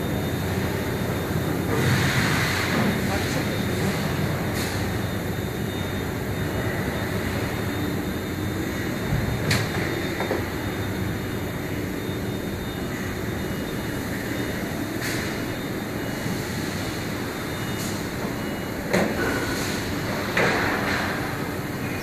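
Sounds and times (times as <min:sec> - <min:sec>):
machinery noise: 0:00.0 - 0:22.0.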